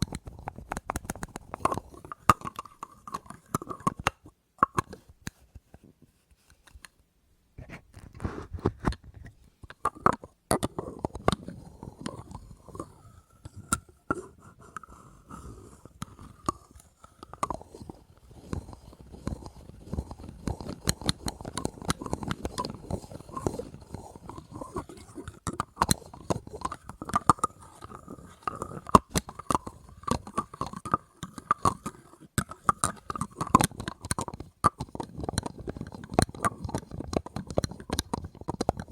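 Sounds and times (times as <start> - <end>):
tapping and scraping on hard objects: 0.0 - 6.9, 7.6 - 38.9.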